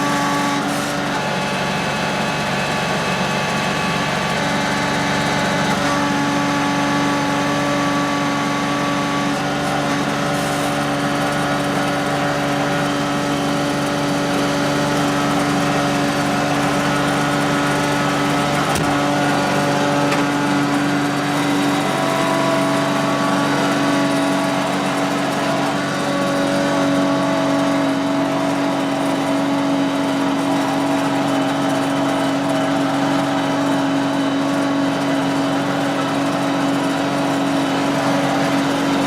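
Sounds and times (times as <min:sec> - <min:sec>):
lawn tractor engine running: 0:00.0 - 0:39.0.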